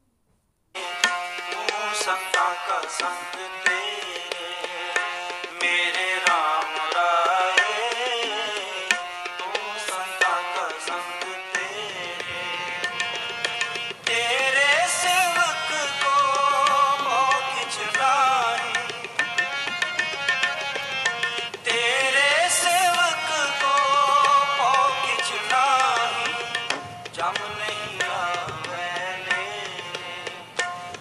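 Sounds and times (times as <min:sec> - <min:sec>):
background music with drums: 0:00.8 - 0:31.0.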